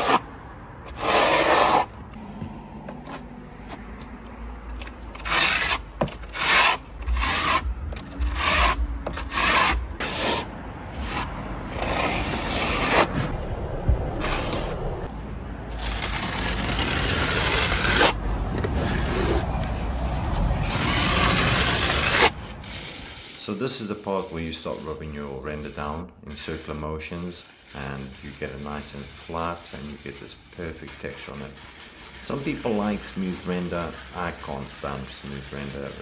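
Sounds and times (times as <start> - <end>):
trowel scraping render on wall: 0.0 - 2.0, 4.9 - 13.3, 15.7 - 19.8, 20.6 - 36.0.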